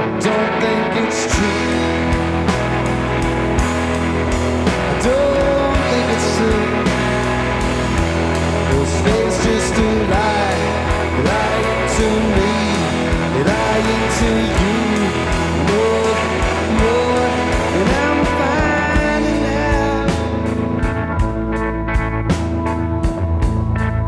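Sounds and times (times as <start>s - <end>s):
sliding lead guitar line: 0.0s - 24.0s
steady bass: 0.0s - 24.0s
drums keeping a beat: 1.3s - 24.0s.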